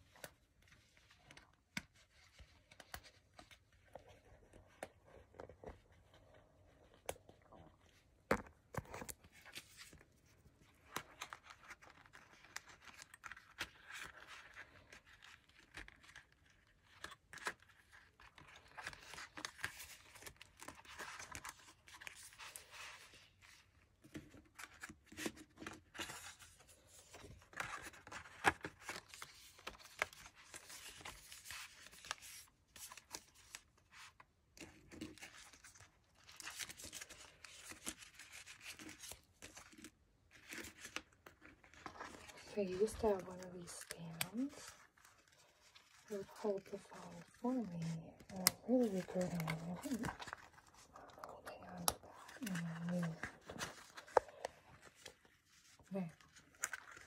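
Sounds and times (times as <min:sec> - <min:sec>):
plastic and paper rustling: 0:00.0 - 0:57.0.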